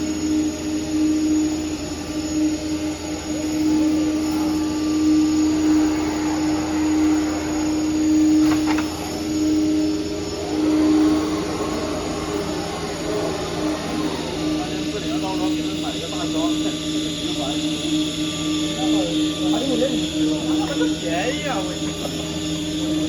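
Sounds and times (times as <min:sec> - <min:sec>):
router spindle whine: 0:00.0 - 0:23.0.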